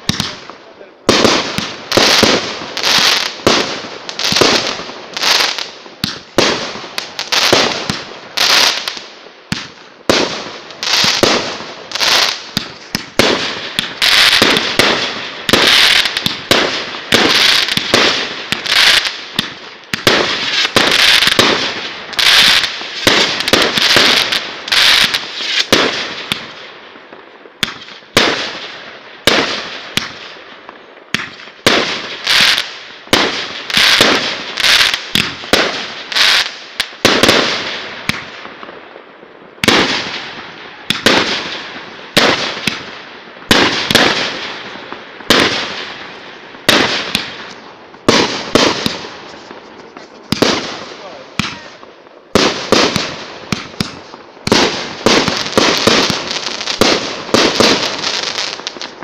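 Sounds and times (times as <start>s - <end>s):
fireworks bangs: 0.0s - 59.0s
hiss of falling fireworks: 0.0s - 59.0s.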